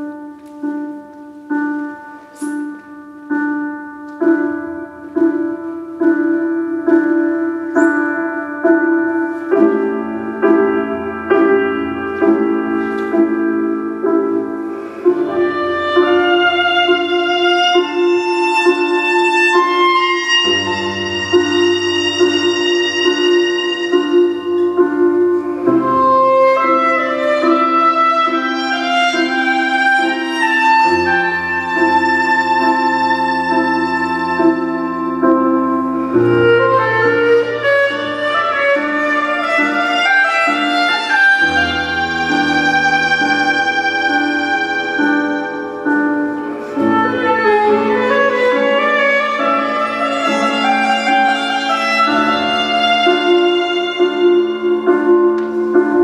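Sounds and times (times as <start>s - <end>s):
slow solo piano: 0.0s - 56.0s
slow violin melody: 0.0s - 56.0s
sustained accompaniment: 0.0s - 56.0s.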